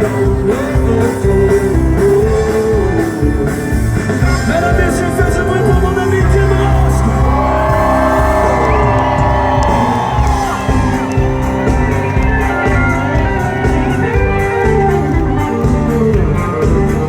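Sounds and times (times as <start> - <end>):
country-rock band playing: 0.0 - 17.0
steady drum beat: 0.0 - 17.0.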